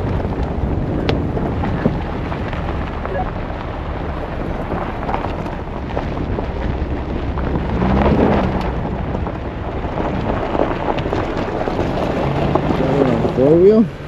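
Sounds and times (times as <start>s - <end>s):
tyres crunching over gravel: 0.0s - 14.0s
vehicle engine running: 0.0s - 14.0s.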